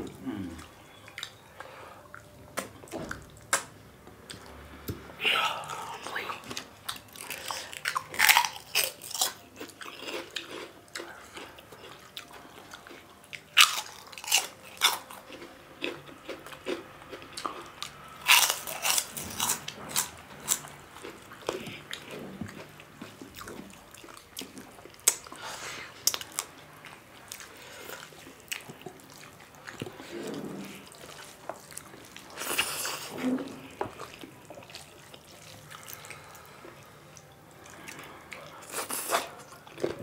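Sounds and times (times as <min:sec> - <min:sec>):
wet chewing: 0:05.4 - 0:40.0.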